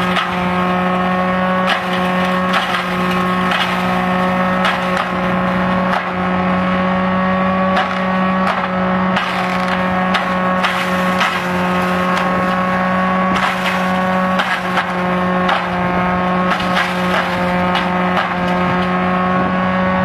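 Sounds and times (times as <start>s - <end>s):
sharp cracks of chopping: 0.0s - 6.5s, 7.6s - 19.0s
shredder and tractor engine hum: 0.0s - 20.0s.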